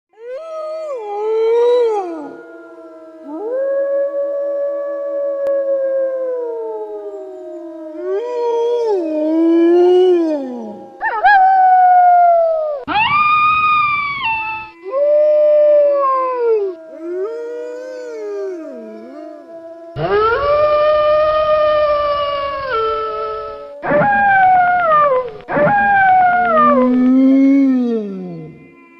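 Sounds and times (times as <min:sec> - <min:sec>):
wolves howling: 0:00.2 - 0:28.8.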